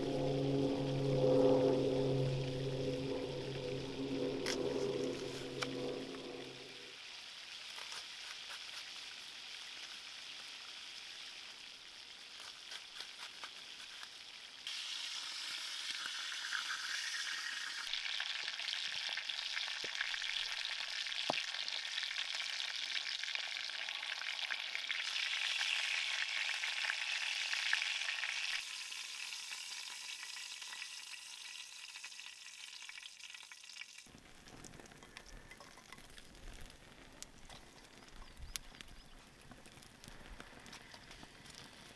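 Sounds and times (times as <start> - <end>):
food sizzling in a pan: 0.0 - 37.0.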